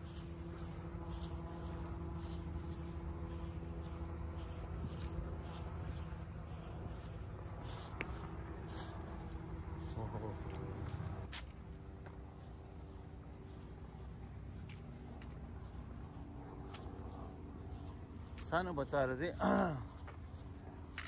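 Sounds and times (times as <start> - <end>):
footsteps scuffing on path: 0.0 - 19.2
low hum: 0.0 - 21.0.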